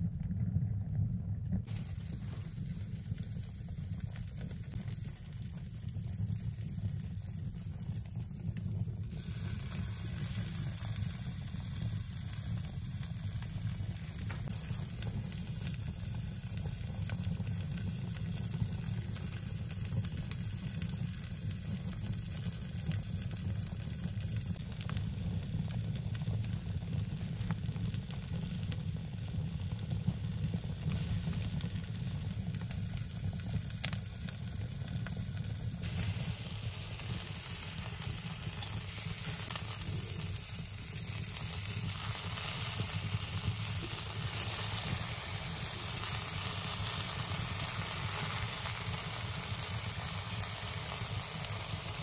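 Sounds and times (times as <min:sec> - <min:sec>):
fire crackles: 0:00.0 - 0:52.0
wood fire burning: 0:00.0 - 0:52.0.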